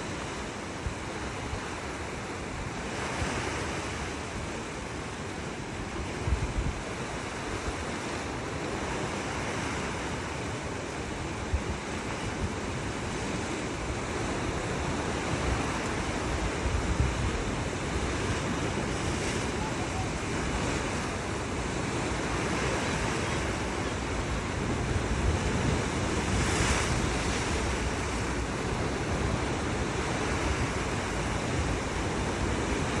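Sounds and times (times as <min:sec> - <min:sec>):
sea waves washing on shore: 0:00.0 - 0:33.0
wind rumbling on microphone: 0:00.0 - 0:33.0.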